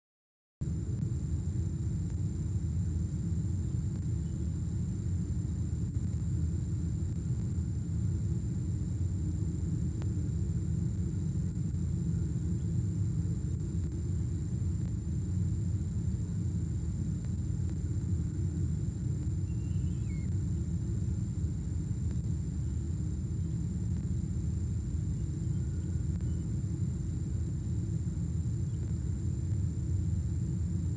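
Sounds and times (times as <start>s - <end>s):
high-pitched electronic whine: 0.6s - 30.9s.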